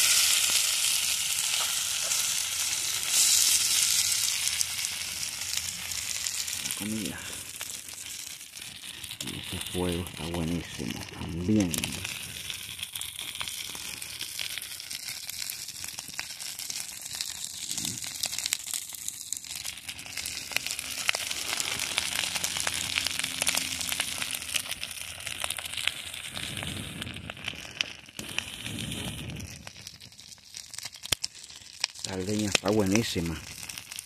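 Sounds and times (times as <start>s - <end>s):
firewood crackling and popping: 0.0s - 34.0s
rice sizzling in a skillet: 0.0s - 34.0s.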